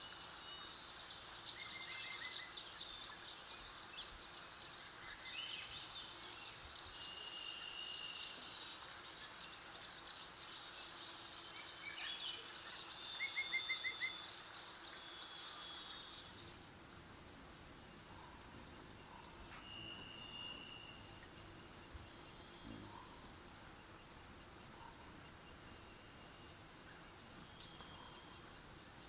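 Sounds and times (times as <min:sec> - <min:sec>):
birds singing: 0:00.0 - 0:29.0
outdoor hiss: 0:00.0 - 0:29.0.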